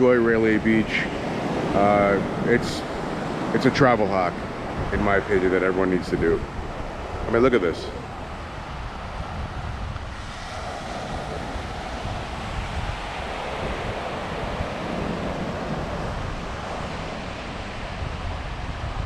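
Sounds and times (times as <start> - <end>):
waves washing onto beach: 0.0 - 19.0
wind buffeting microphone: 0.0 - 19.0.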